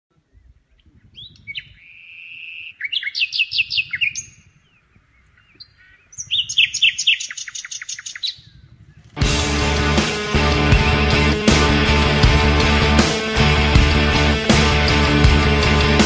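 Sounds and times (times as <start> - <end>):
songbird singing: 0.1 - 16.0.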